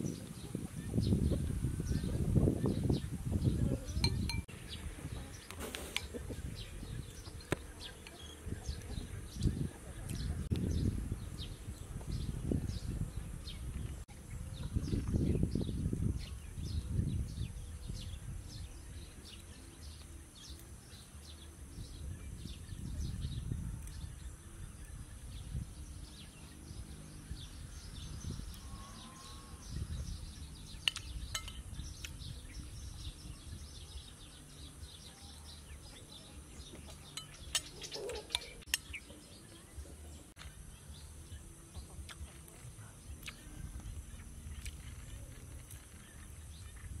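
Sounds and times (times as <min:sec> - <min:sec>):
wind rumble on microphone: 0:00.0 - 0:39.8, 0:40.5 - 0:47.0.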